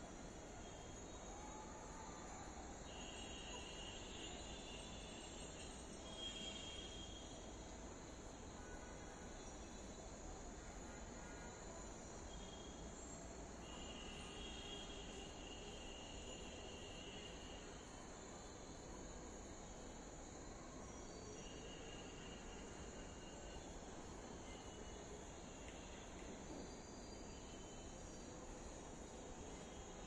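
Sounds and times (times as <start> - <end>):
crickets chirping: 0.1 - 30.0
high insect trill: 0.3 - 10.0, 10.6 - 30.0.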